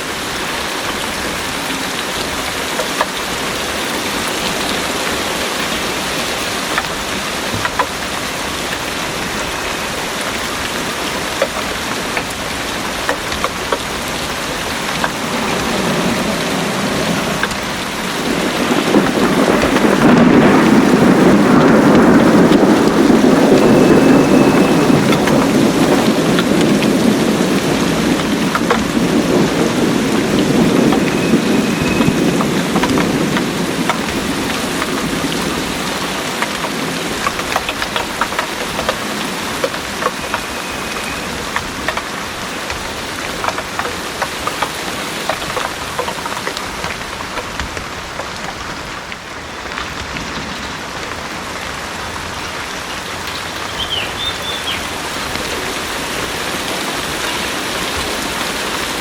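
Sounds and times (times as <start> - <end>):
heavy rain pouring: 0.0 - 59.0
raindrops pattering: 0.0 - 59.0
low thunder rumbling: 1.0 - 59.0.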